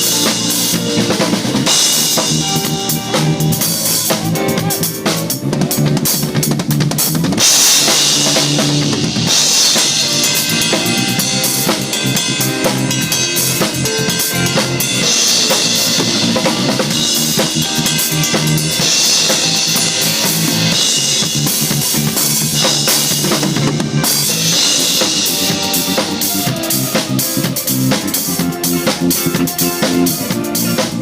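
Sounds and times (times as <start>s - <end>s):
drum kit groove: 0.0s - 31.0s.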